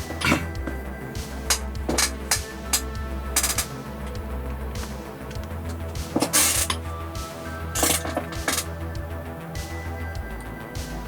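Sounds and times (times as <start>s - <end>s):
synthwave music: 0.0s - 11.0s.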